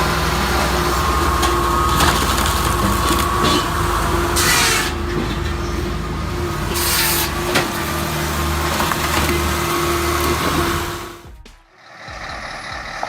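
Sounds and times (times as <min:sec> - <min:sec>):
diesel engine droning: 0:00.0 - 0:13.0
machine whine: 0:00.0 - 0:13.0.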